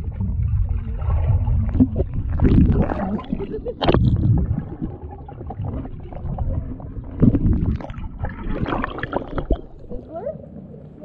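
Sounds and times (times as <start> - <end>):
underwater clicks and bubble pops: 0.0 - 10.0
water sloshing: 0.0 - 10.6
underwater water rumble: 0.0 - 11.0.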